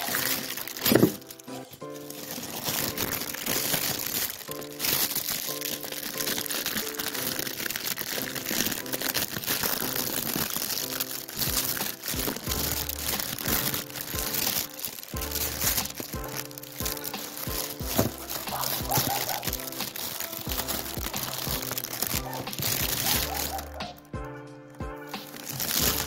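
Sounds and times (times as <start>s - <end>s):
plastic bag crinkling: 0.0s - 24.1s, 25.1s - 26.0s
light background music: 0.0s - 26.0s.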